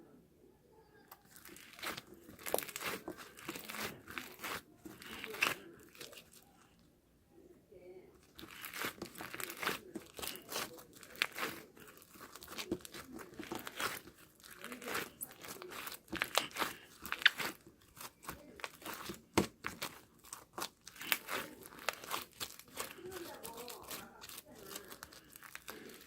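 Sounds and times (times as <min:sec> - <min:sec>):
slime squeezed by hand crackling: 0:01.2 - 0:06.7, 0:08.3 - 0:26.0.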